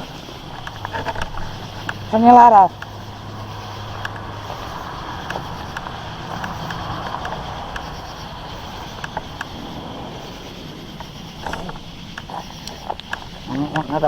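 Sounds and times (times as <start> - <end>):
faint clicks: 0.0 - 14.0
tyres hissing on road: 0.0 - 14.0.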